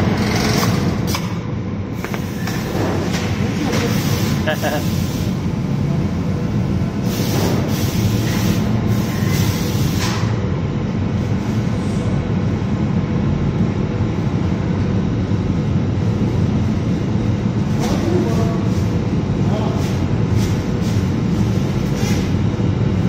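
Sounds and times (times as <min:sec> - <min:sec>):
mill machinery low rumble: 0:00.0 - 0:23.0.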